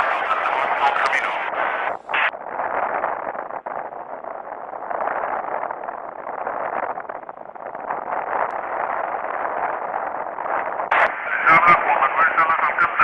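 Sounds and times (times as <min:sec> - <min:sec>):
radio static hiss: 0:00.0 - 0:03.9, 0:04.9 - 0:13.0.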